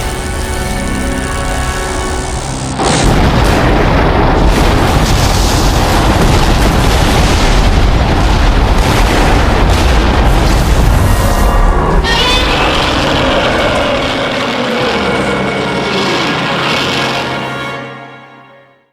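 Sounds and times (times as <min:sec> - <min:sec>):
explosive rumble: 0:00.0 - 0:16.6.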